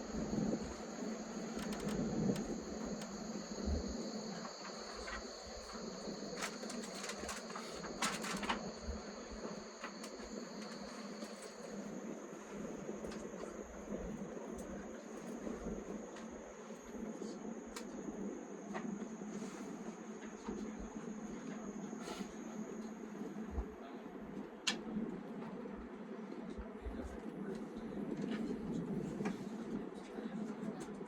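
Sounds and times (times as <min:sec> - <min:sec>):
train rumble inside carriage: 0:00.0 - 0:31.0.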